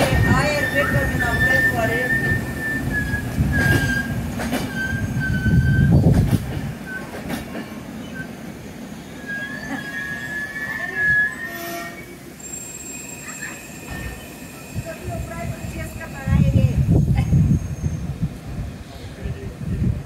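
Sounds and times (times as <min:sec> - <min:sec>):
train wheels squealing: 0:00.0 - 0:16.6, 0:17.2 - 0:18.2
low train rumble: 0:00.0 - 0:20.0.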